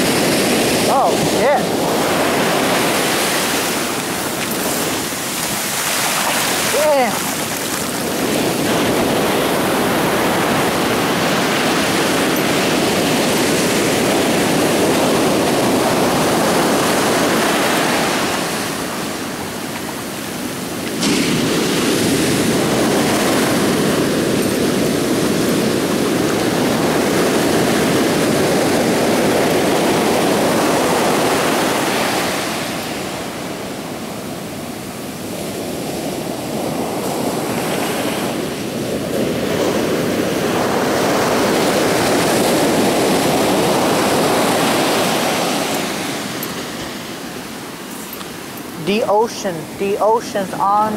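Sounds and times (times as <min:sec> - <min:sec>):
ocean surf washing in: 0:00.0 - 0:50.9.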